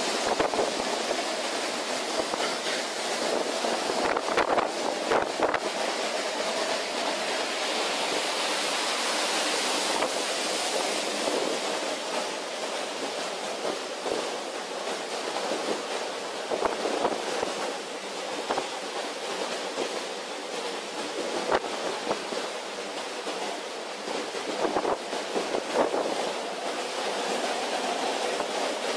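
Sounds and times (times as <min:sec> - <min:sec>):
waves breaking against ship: 0:00.0 - 0:28.9.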